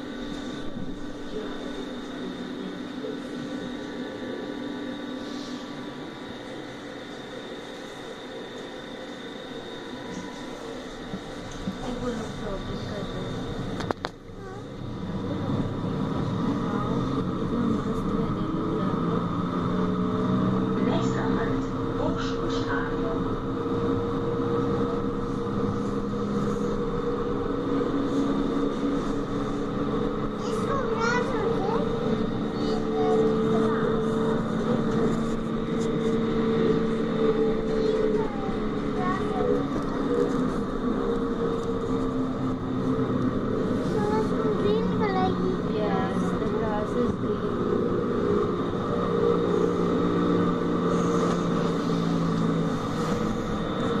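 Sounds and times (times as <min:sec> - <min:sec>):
tram wheels rumbling on rails: 0:00.0 - 0:54.0.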